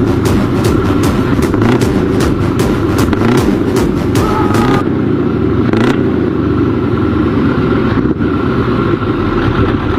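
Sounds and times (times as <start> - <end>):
truck engine revving: 0.0 - 9.9.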